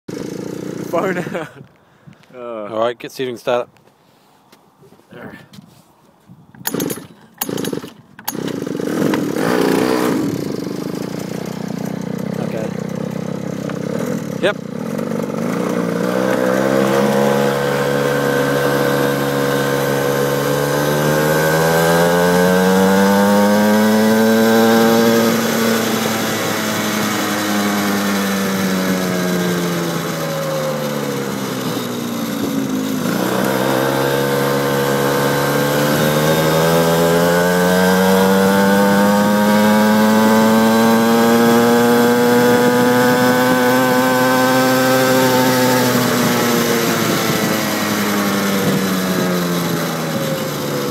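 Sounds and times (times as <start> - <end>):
small motorbike engine revving: 0.1 - 1.6, 6.6 - 50.9.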